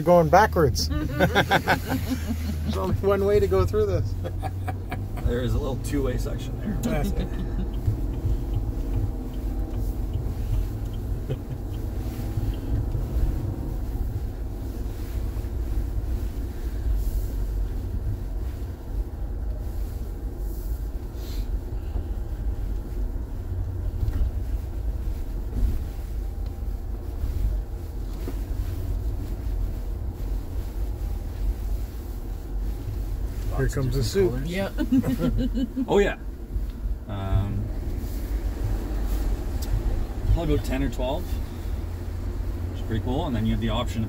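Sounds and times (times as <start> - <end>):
engine and drivetrain rumble: 0.0 - 44.0.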